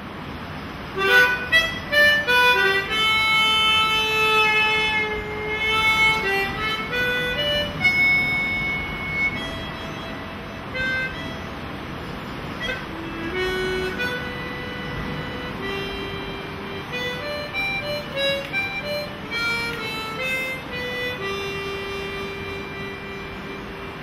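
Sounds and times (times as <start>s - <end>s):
background hiss: 0.0s - 24.0s
harmonica melody: 0.9s - 24.0s.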